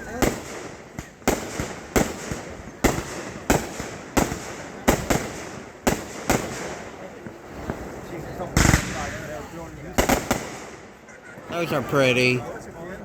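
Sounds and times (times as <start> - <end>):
fireworks bursting: 0.0 - 12.4.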